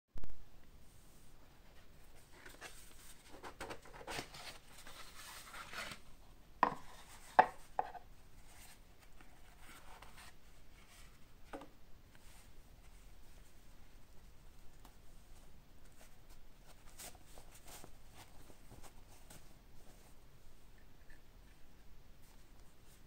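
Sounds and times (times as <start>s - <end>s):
soft rustling: 0.8s - 23.0s.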